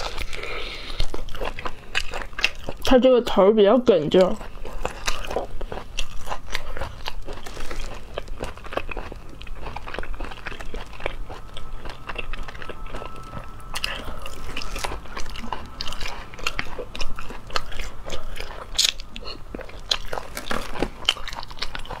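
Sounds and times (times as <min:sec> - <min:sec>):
person chewing snail meat: 0:00.0 - 0:22.0
sharp teeth clicks: 0:04.2 - 0:22.0.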